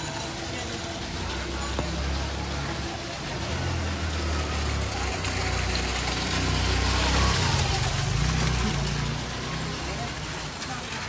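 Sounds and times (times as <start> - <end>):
heavy rain hissing on street: 0.0 - 11.0
vehicle engine running low: 0.0 - 11.0.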